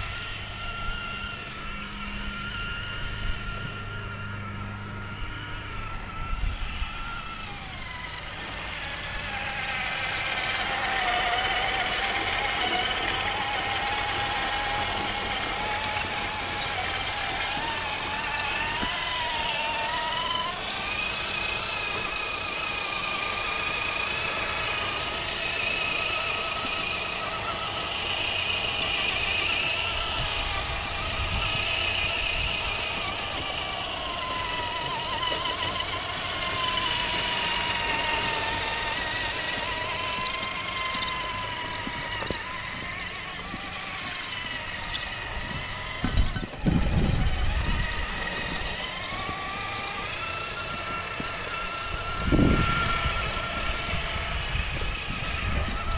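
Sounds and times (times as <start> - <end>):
electric drivetrain whine: 0.0 - 55.9
rattle of tracks: 0.0 - 55.9.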